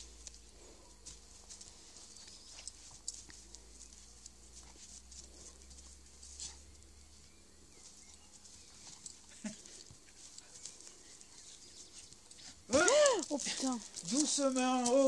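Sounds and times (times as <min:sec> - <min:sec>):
dogs scuffling on grass: 0:00.0 - 0:15.0.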